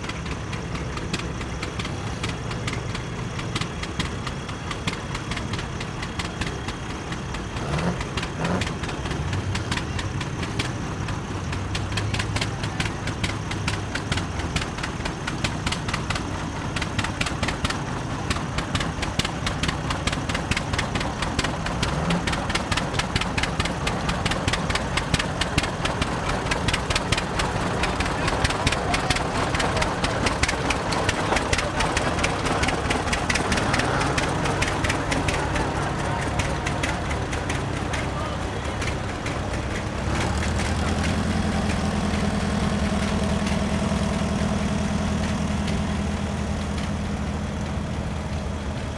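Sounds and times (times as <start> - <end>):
tractor engines running: 0.0 - 48.9.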